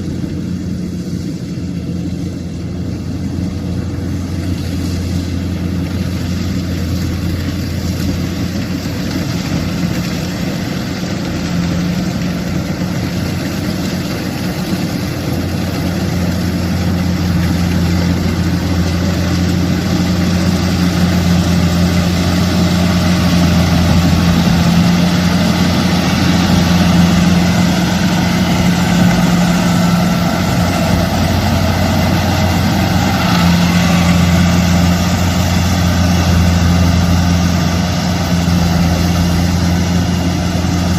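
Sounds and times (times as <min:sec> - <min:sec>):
diesel engine humming: 0:00.0 - 0:40.9.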